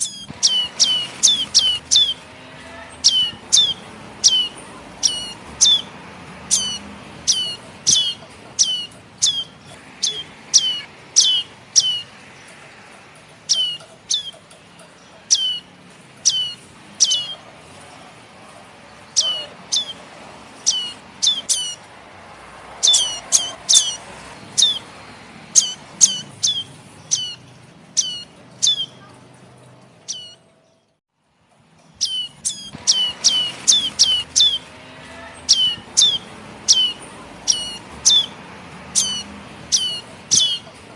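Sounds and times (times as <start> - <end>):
bird chirping sharply: 0.0 - 12.6, 13.3 - 17.5, 19.0 - 21.9, 22.8 - 24.9, 25.5 - 29.2, 30.0 - 31.0, 31.9 - 34.8, 35.4 - 40.8.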